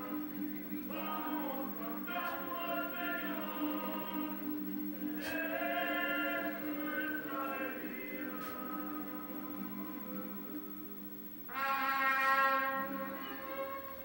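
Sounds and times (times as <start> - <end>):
choir singing through tv speaker: 0.0 - 14.0
steady low hum: 0.0 - 14.0.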